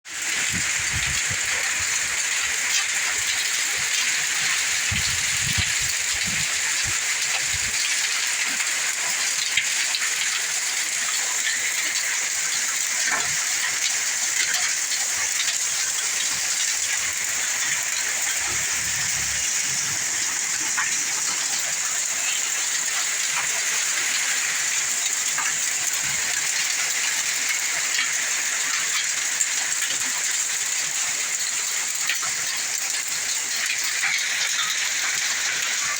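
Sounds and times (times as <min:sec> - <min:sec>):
heavy rain hissing: 0:00.1 - 0:35.9
hailstones ticking: 0:00.3 - 0:35.9.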